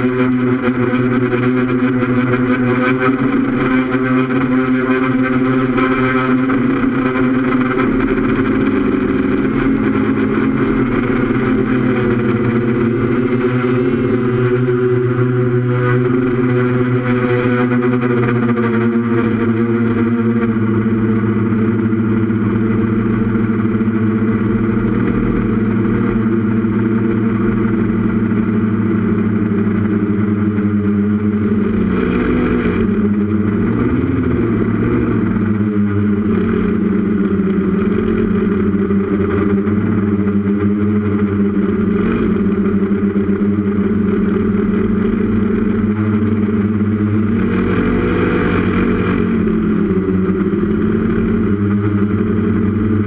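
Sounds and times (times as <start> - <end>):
drone motors buzzing: 0.0 - 53.0.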